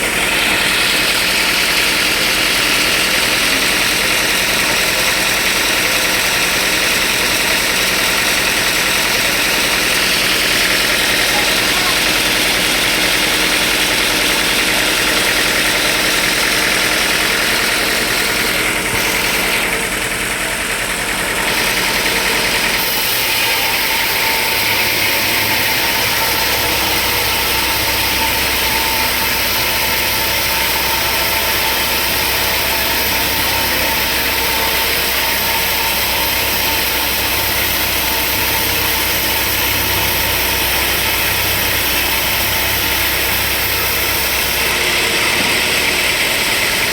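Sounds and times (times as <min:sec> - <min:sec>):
deep machinery rumble: 0:00.0 - 0:46.9
sawmill machinery running: 0:00.0 - 0:46.9.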